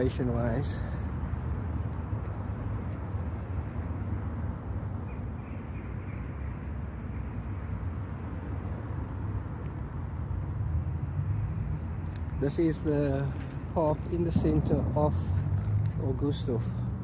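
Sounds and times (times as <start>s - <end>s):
low rumbling town background: 0.0s - 17.0s.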